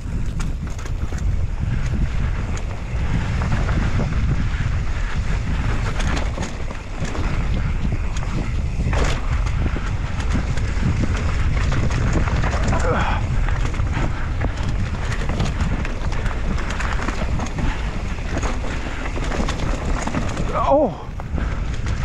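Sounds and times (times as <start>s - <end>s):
bike tyres rumbling on dirt: 0.0s - 22.0s
wind buffeting microphone: 0.0s - 22.0s.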